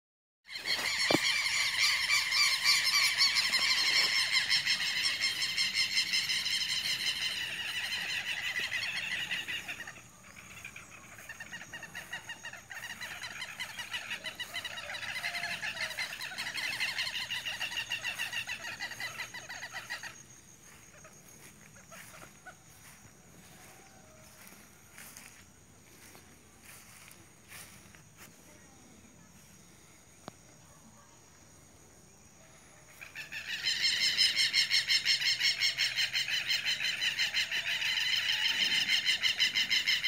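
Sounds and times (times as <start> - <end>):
birds squawking: 0.5 - 27.7, 32.9 - 40.0.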